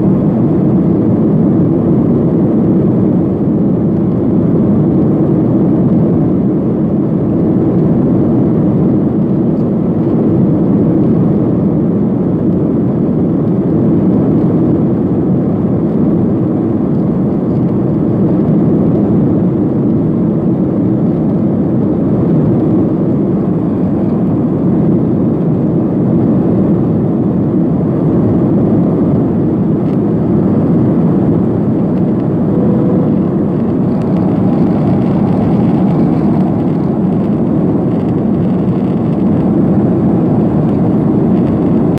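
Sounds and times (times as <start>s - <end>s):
airplane cabin roar: 0.0s - 41.9s.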